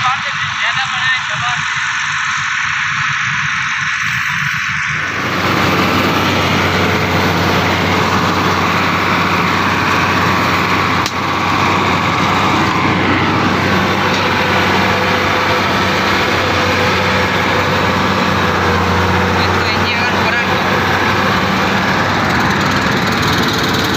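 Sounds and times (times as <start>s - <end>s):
combine harvester running: 0.0s - 23.9s.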